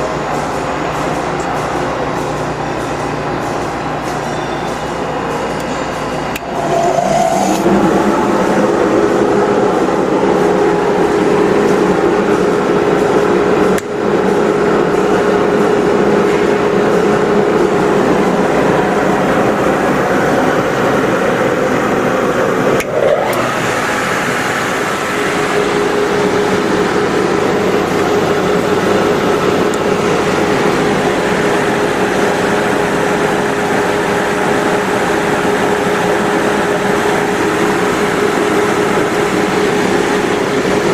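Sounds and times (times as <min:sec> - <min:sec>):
grinding machine hissing and humming: 0:00.0 - 0:40.9.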